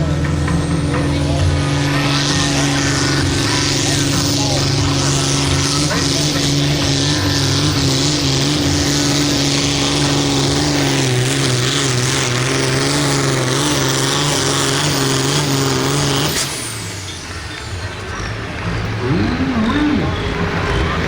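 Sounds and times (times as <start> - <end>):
tractor engine at full power: 0.0 - 21.0.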